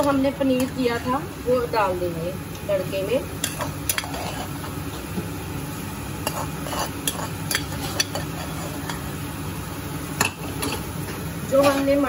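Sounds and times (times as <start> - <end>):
sauce sizzling in pan: 0.0 - 12.0.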